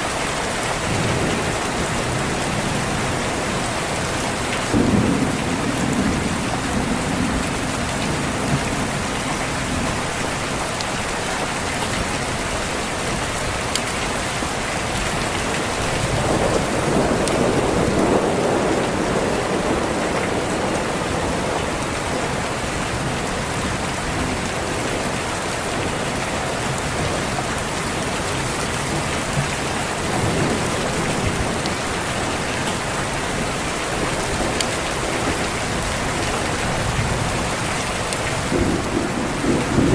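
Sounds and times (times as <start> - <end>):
heavy rain: 0.0 - 39.9
thunder rumbling: 0.8 - 11.2, 14.9 - 39.9.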